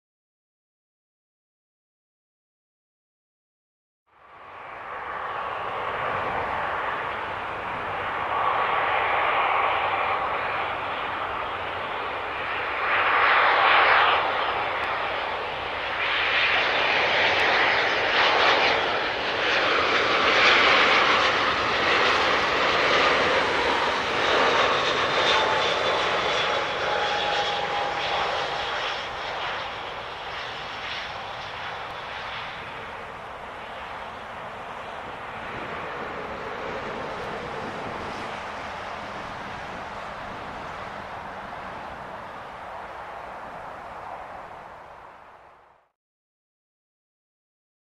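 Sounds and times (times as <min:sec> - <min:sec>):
faint jet engine whine: 0:04.1 - 0:45.9
jet airliner roar: 0:04.1 - 0:45.9.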